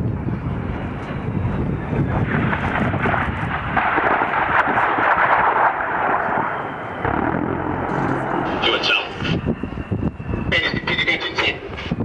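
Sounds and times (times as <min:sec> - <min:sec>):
rolling rumble of ordnance: 0:00.0 - 0:11.1.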